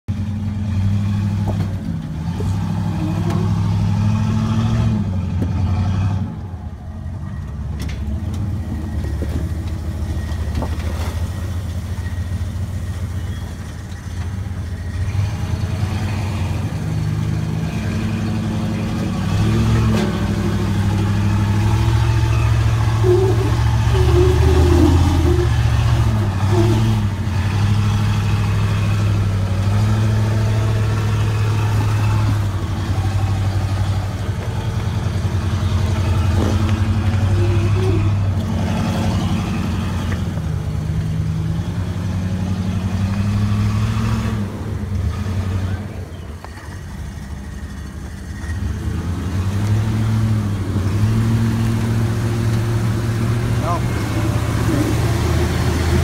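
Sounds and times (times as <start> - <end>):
pickup truck engine revving: 8.2 - 56.0.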